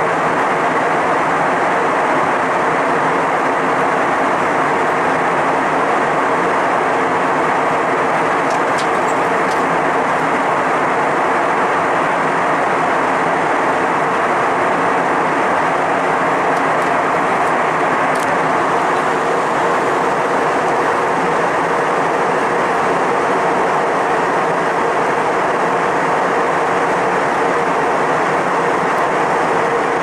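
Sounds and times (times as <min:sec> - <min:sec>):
jet engine roar and rushing air: 0:00.0 - 0:30.0.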